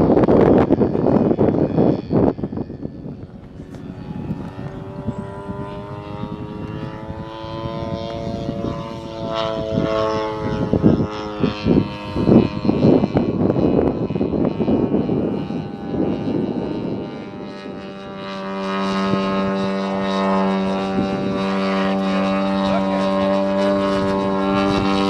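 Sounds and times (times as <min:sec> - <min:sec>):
model plane engine droning: 0:00.0 - 0:25.0
wind rumble on microphone: 0:00.0 - 0:25.0.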